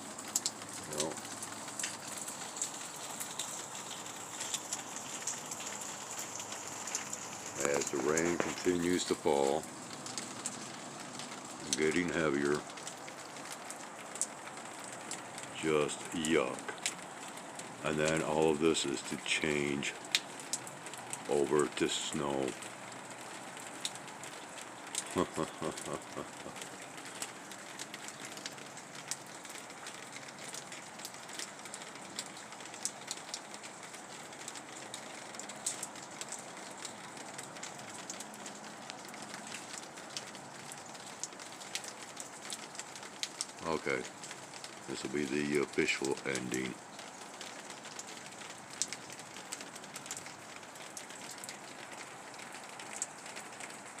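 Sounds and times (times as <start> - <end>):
raindrops ticking: 0.0 - 54.0
steady rain hiss: 0.0 - 54.0.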